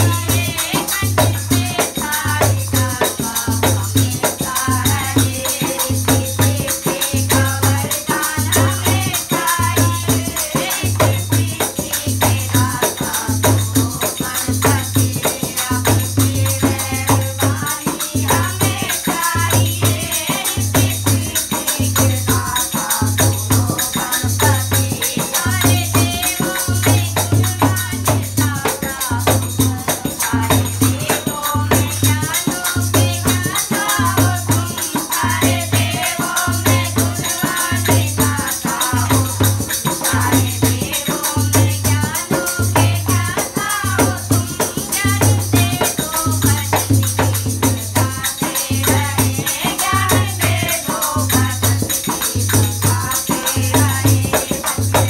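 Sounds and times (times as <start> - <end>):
hand drum beating: 0.0 - 55.0
rattling percussion: 0.0 - 55.0
women singing in unison: 0.0 - 55.0.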